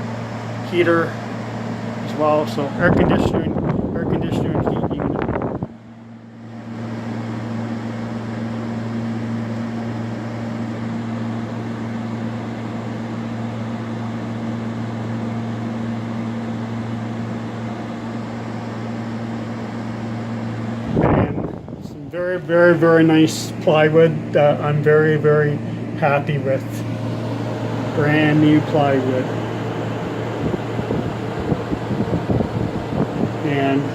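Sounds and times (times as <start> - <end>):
air conditioner fan rushing: 0.0 - 33.9
air conditioner hum: 0.0 - 33.9.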